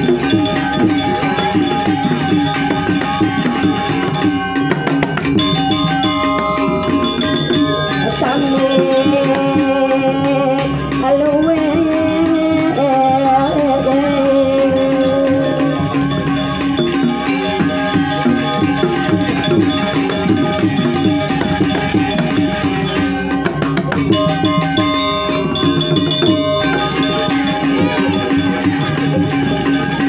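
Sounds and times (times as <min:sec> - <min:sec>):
gamelan music: 0:00.0 - 0:30.0.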